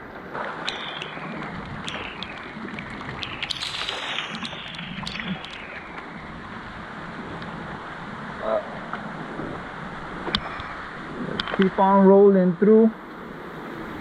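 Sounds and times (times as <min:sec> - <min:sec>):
water rushing and trickling: 0:00.0 - 0:14.0.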